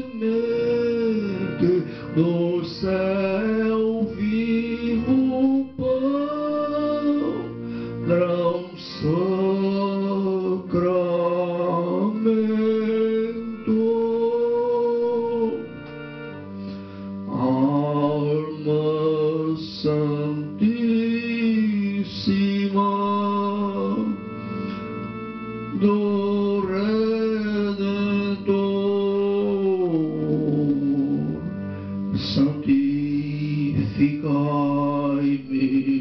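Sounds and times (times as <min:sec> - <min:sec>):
electronic keyboard chords: 0:00.0 - 0:36.0
person singing a slow hymn: 0:00.0 - 0:36.0.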